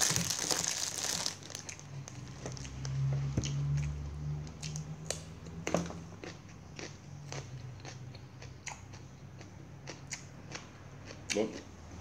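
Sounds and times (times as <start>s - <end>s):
man chewing food: 1.2s - 11.7s.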